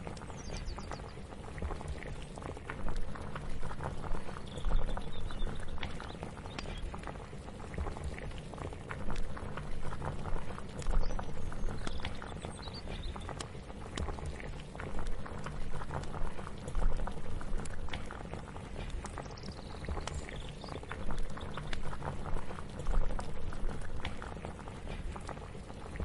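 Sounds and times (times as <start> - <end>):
liquid bubbling in a pot: 0.0 - 26.0.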